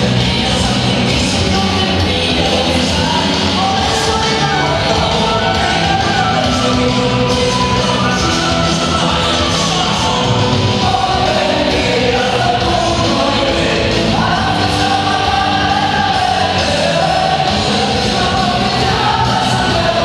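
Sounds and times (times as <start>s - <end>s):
loud dance music with singing: 0.0s - 20.0s.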